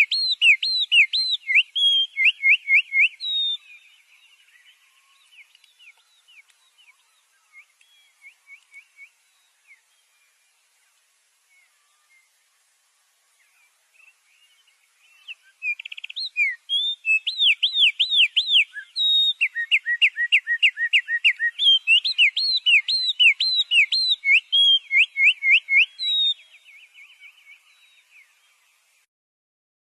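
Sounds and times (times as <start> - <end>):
songbird singing: 0.0 - 29.1.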